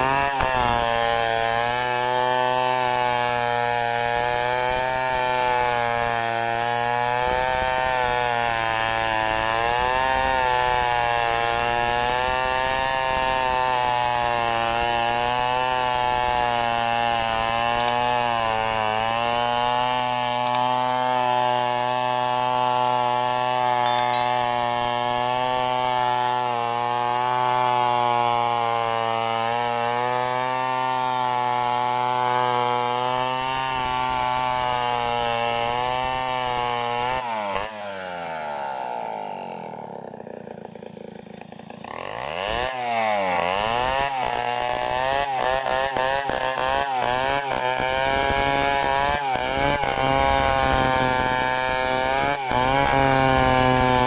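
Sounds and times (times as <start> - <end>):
chainsaw cutting log: 0.0 - 24.2, 25.3 - 54.0.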